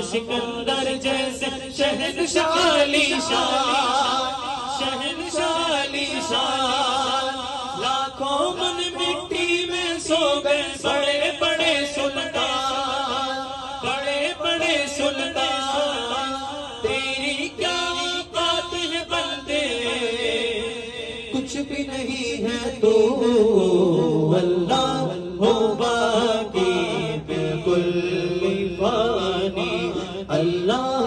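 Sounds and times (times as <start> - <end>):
men singing into microphones: 0.0 - 31.0.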